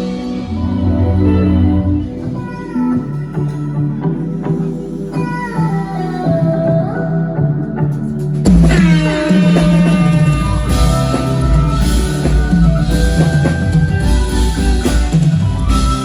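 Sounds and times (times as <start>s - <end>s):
bass: 0.0s - 16.0s
drum kit: 0.0s - 16.0s
guitar: 0.0s - 16.0s.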